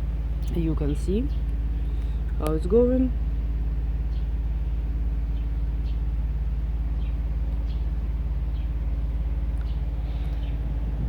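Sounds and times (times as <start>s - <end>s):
low mechanical hum: 0.0s - 11.0s
birds chirping: 0.2s - 11.0s.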